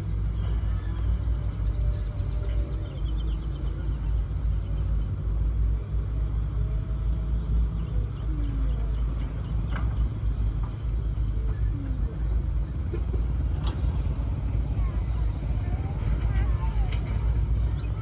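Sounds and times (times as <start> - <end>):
construction machines rumbling: 0.0 - 18.0.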